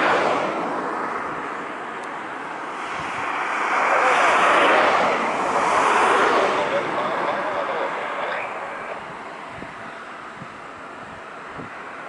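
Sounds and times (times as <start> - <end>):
jet engine rushing: 0.0 - 12.0.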